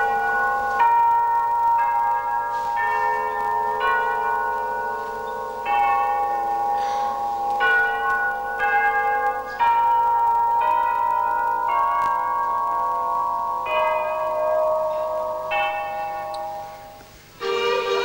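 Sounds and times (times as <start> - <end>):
ringing bell-like chords: 0.0 - 18.0.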